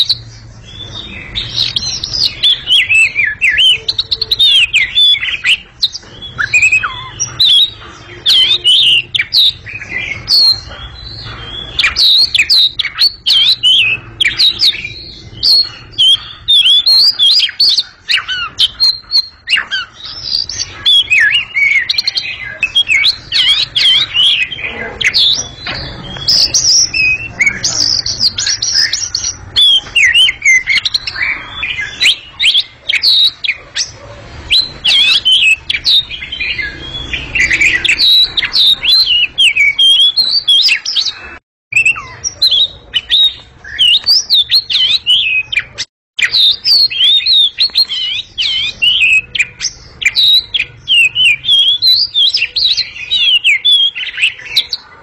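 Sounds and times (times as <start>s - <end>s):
bird singing chirps and whistles: 0.0s - 54.9s.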